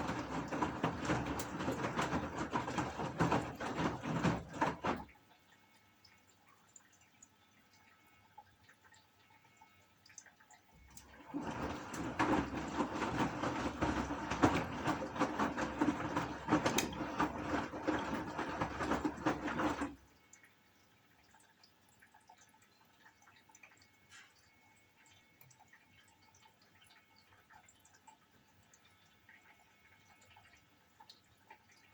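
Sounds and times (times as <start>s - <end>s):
water rushing in washing machine: 0.0s - 5.8s, 9.6s - 20.5s, 21.2s - 31.9s
water dripping: 0.0s - 12.1s, 13.4s - 31.9s.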